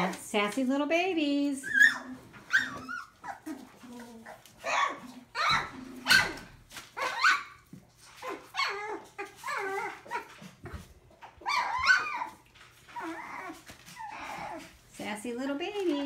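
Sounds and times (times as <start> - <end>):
puppies yipping and barking: 1.6 - 14.8.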